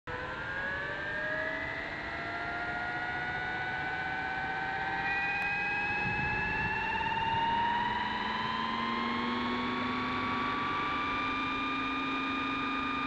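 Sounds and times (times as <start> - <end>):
electric motor whine rising: 0.1 - 13.0.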